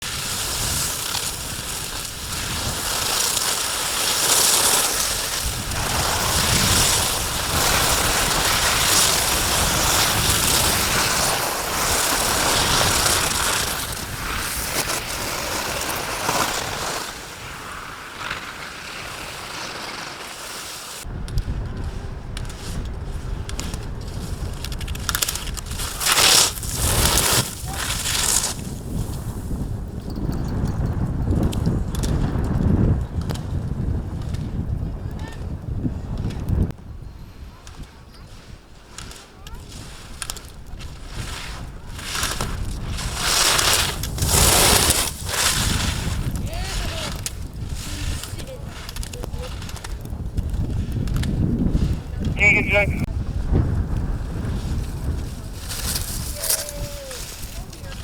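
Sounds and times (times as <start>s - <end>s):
wind buffeting microphone: 0.0s - 18.0s, 21.0s - 58.0s
skis scraping on snow: 0.0s - 29.8s, 37.0s - 58.0s.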